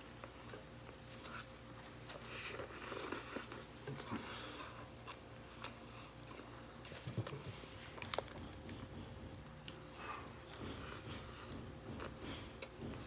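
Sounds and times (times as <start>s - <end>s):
chewing fried chicken: 0.0s - 13.0s.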